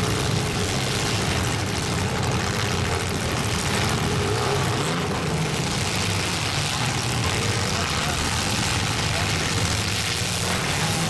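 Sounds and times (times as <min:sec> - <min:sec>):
car engines droning: 0:00.0 - 0:11.0.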